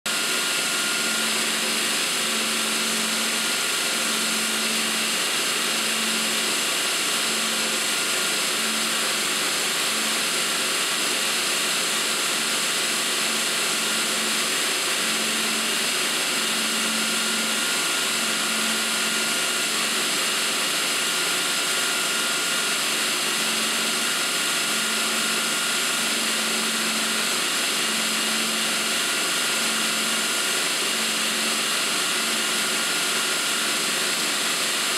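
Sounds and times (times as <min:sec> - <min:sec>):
faint high whine: 0:00.1 - 0:34.6.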